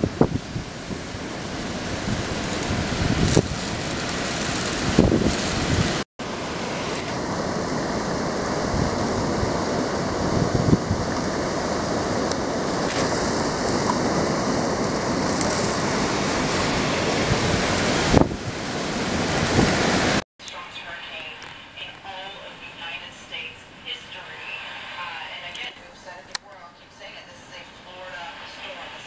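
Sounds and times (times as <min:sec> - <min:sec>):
driving rain: 0:00.0 - 0:26.1
hurricane wind gusts: 0:00.0 - 0:26.4, 0:27.0 - 0:29.0.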